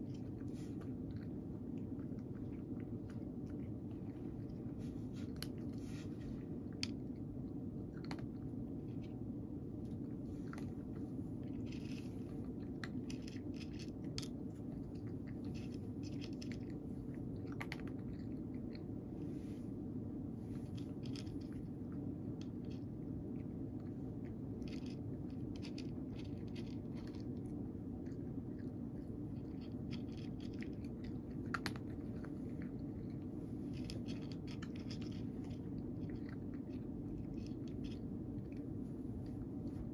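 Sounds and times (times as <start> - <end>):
cat crunching dry kibble: 0.0 - 19.6, 20.4 - 39.9
steady low hum: 0.0 - 39.9.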